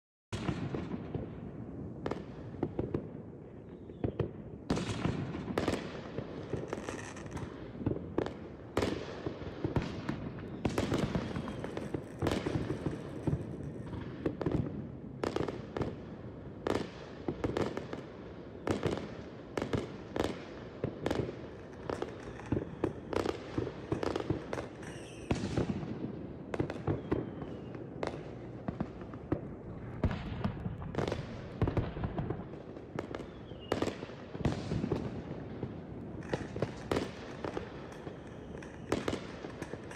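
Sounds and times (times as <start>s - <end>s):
fireworks bangs and crackles: 0.3s - 39.9s.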